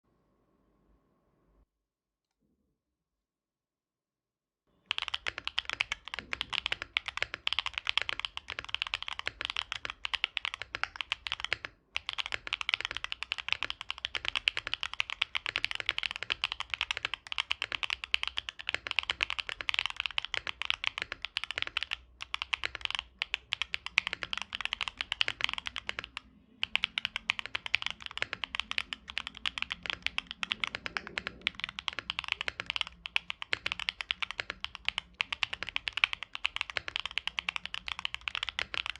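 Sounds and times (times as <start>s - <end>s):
mechanical keyboard typing: 4.9s - 38.9s.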